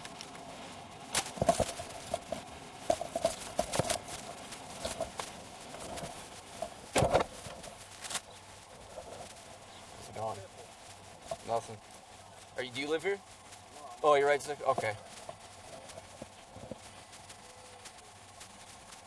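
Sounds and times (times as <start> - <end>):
clicks and rustles of movement: 0.0 - 19.0.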